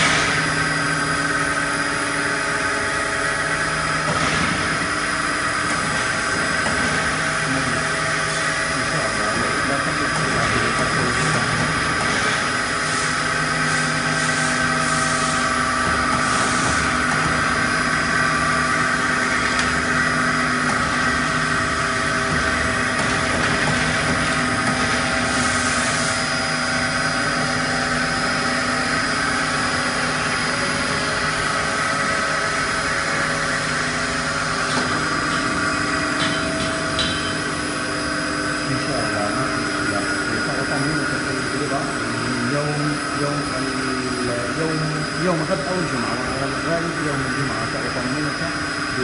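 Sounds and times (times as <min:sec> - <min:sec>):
electric motor hum with whine: 0:00.0 - 0:49.0.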